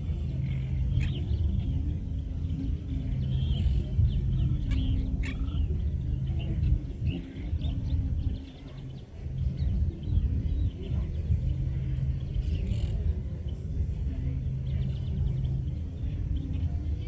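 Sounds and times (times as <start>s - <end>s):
birds chirping: 0.0s - 17.0s
distant booming bass music: 0.0s - 17.0s.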